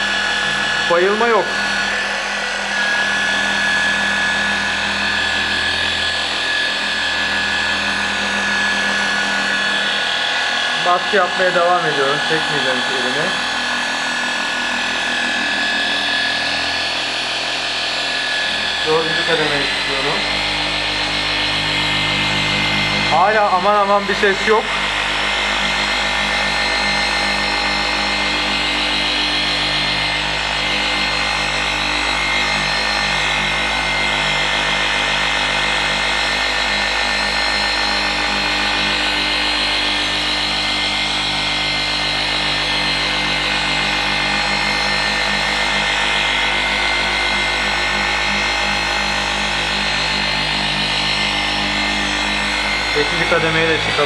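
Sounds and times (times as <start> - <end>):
polisher motor whine: 0.0 - 54.0.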